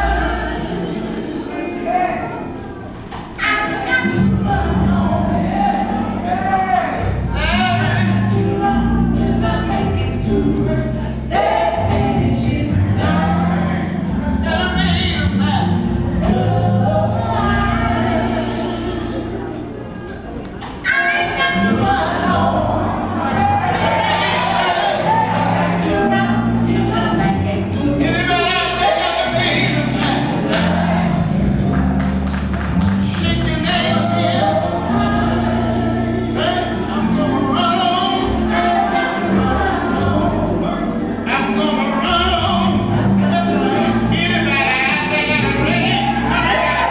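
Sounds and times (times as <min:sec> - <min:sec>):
drum kit beat: 0:00.0 - 0:46.9
electric bass: 0:00.0 - 0:46.9
keyboard: 0:00.0 - 0:46.9
vocal group singing: 0:00.0 - 0:46.9.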